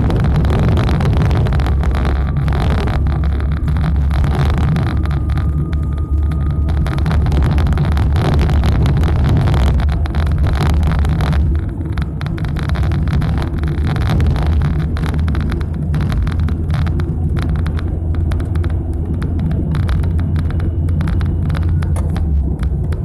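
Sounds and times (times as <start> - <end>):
engine and road rumble: 0.0 - 23.0.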